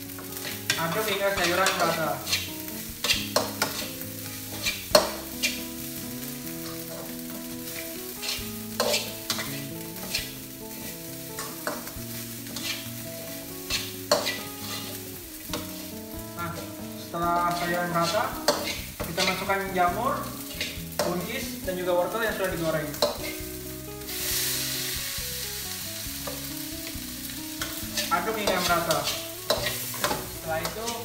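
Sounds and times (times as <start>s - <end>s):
spatula scraping a wok: 0.0s - 21.7s, 22.6s - 31.0s
steady sizzle: 0.0s - 31.0s.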